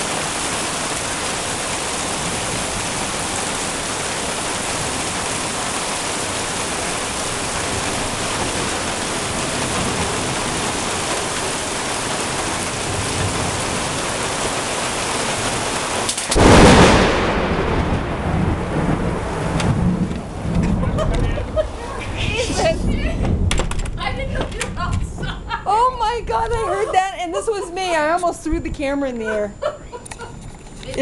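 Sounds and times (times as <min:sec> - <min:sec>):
loud thunderclap: 0:00.0 - 0:27.2
heavy rain: 0:00.0 - 0:31.0.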